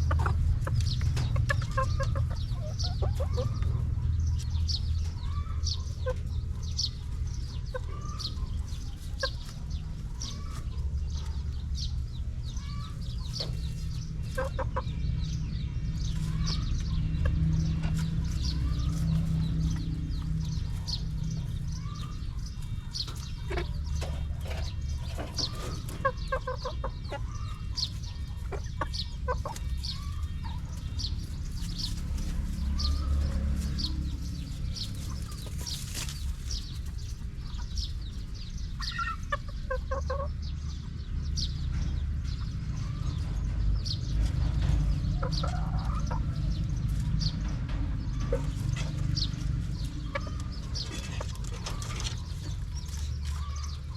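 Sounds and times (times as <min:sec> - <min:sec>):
chickens clucking: 0:00.0 - 0:53.9
steady low rumble: 0:00.0 - 0:53.9.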